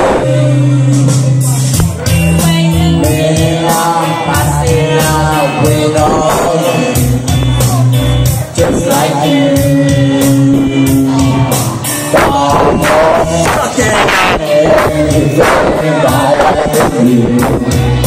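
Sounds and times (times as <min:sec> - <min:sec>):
backing music with steady beat: 0:00.0 - 0:18.0
person singing karaoke: 0:00.0 - 0:18.0.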